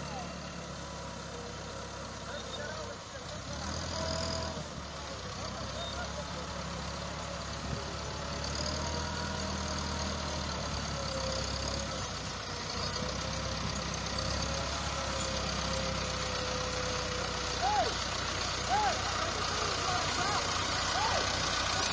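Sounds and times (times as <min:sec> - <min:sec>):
tractor diesel engine under load: 0:00.0 - 0:21.9.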